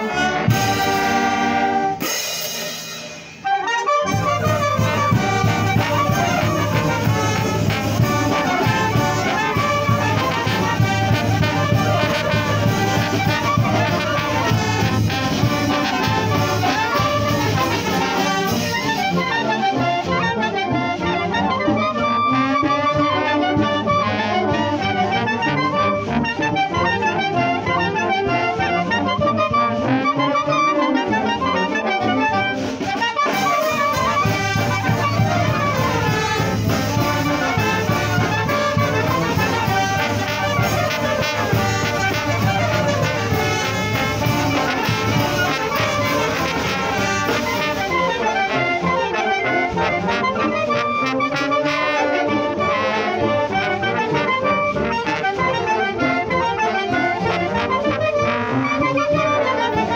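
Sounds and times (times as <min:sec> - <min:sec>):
wind band playing: 0:00.0 - 0:59.9.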